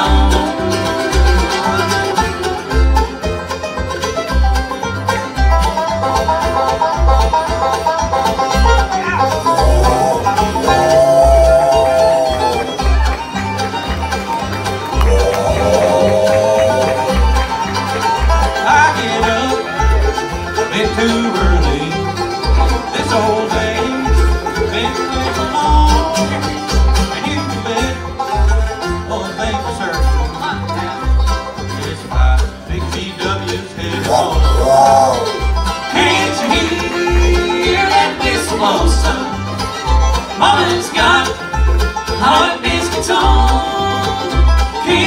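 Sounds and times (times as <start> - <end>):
acoustic guitars: 0.0 - 45.0
banjo: 0.0 - 45.0
bluegrass band playing: 0.0 - 45.0
fiddle: 0.0 - 45.0
mandolin: 0.0 - 45.0
upright bass plucking: 0.0 - 45.0.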